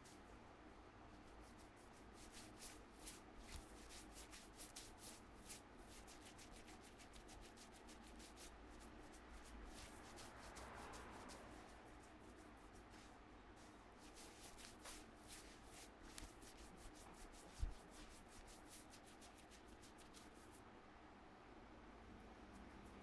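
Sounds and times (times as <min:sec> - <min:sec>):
hands rubbing hair: 0:01.4 - 0:20.6.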